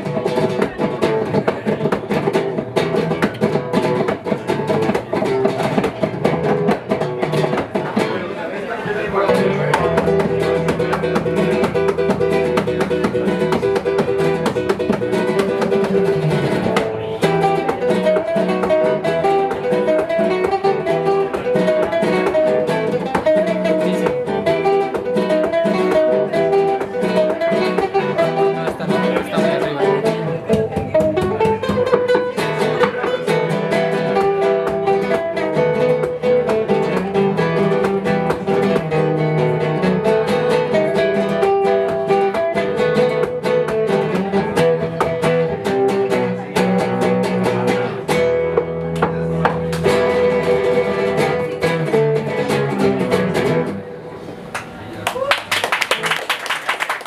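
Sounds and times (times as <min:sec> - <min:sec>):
acoustic guitar playing: 0:00.0 - 0:55.0.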